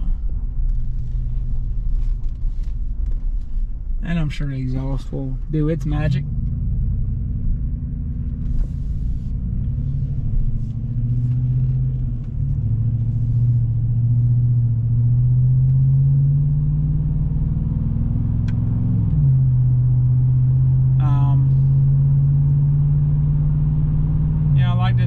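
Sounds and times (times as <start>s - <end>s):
pickup engine accelerating: 0.0s - 25.0s.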